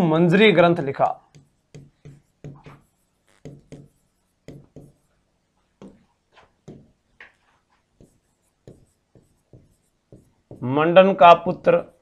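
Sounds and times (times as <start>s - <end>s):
stylus scratching on screen: 0.3s - 12.0s.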